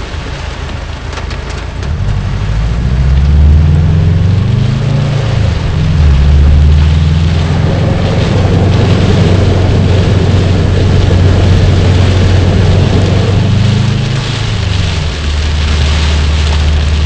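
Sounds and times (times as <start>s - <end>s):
car engine and road drone: 0.0s - 17.0s
heavy rain hissing: 0.0s - 17.0s.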